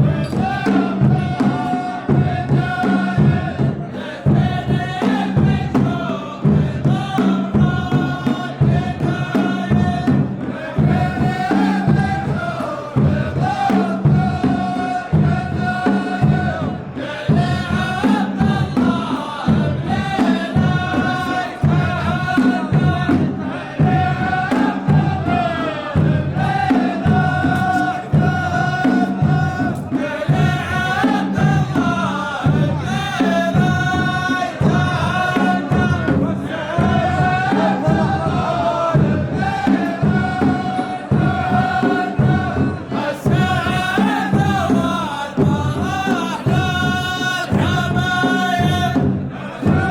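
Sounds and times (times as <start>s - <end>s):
heavy drums beating: 0.0s - 49.9s
men chanting in unison: 0.0s - 49.9s.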